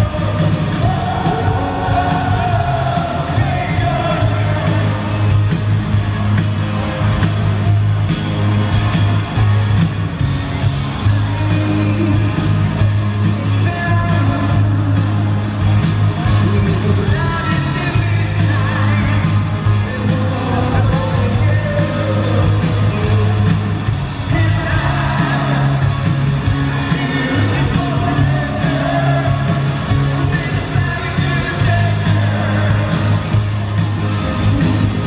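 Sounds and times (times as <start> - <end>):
drums: 0.0 - 35.0
electric guitar: 0.0 - 35.0
keyboards: 0.0 - 35.0.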